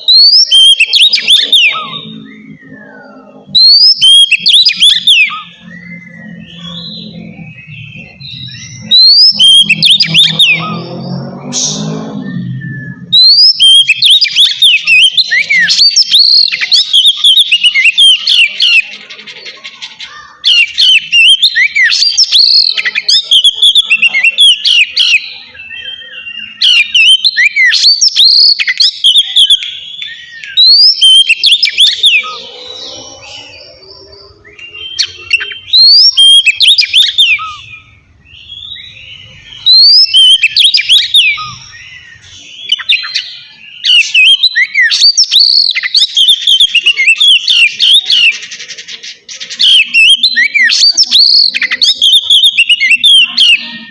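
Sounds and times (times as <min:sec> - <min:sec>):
bird singing whistled phrases: 0:00.0 - 0:19.0, 0:19.8 - 0:53.9.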